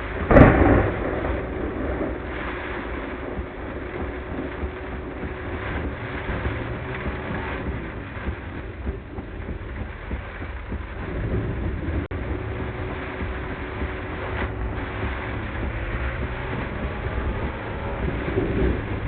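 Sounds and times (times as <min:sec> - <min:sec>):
faint hum: 0:00.0 - 0:19.0
low rumble: 0:00.0 - 0:19.0
road and rain noise: 0:00.0 - 0:19.0.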